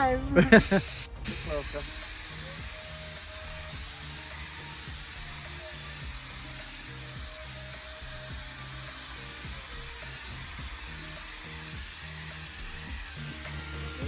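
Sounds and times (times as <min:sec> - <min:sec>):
background music: 0:00.0 - 0:14.0
paint spray gun hissing: 0:00.5 - 0:14.0.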